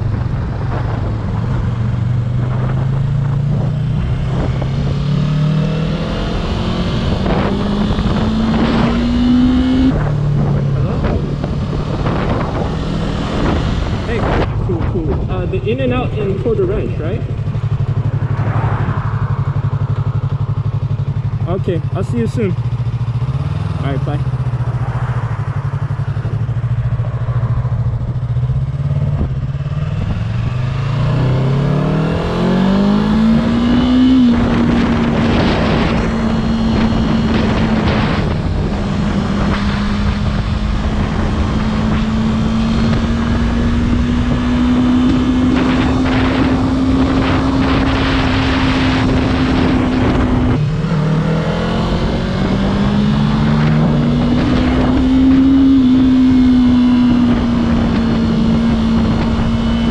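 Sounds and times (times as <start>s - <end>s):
heavy wind rush: 0.0s - 59.9s
motorcycle engine accelerating: 0.0s - 59.9s.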